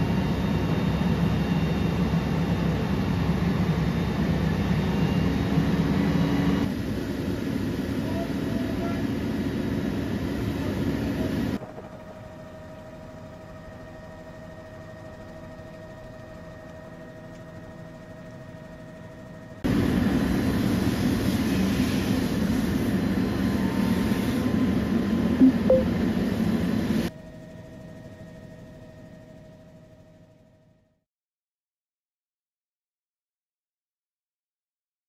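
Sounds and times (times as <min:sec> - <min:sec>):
steady motor hum: 0:00.0 - 0:30.9.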